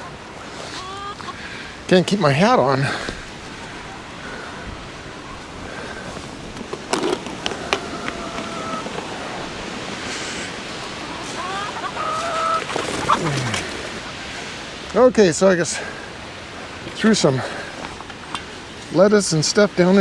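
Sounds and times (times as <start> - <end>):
wind hissing over microphone: 0.0 - 19.2.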